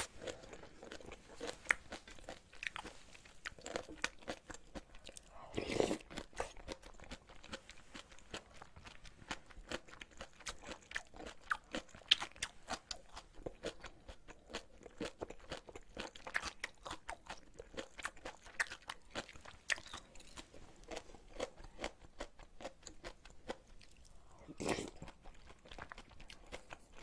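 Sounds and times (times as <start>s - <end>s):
chewing noodles with crunches: 0.0s - 27.0s.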